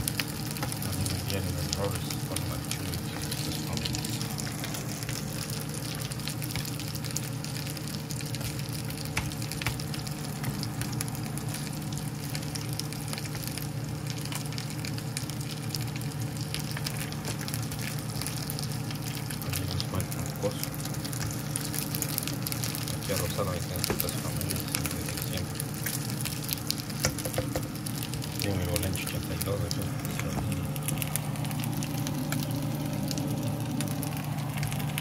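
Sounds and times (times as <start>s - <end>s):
chicken sizzling in a pan: 0.0s - 35.0s
crackles and pops: 0.0s - 35.0s
low hum: 0.0s - 35.0s.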